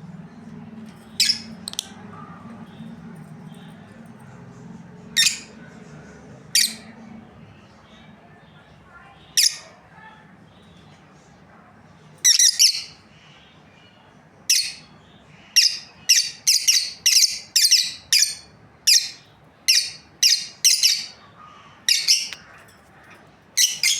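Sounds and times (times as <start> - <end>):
lovebirds chirping: 0.1 - 9.8, 12.2 - 23.9.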